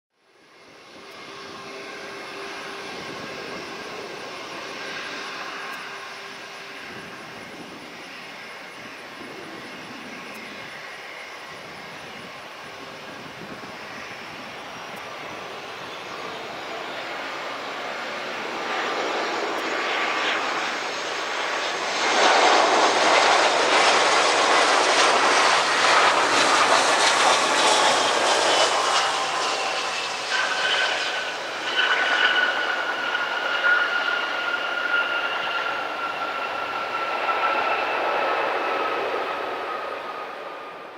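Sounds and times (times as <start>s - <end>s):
high jet engine whine: 0.2s - 40.9s
jet airliner passing: 0.2s - 40.9s.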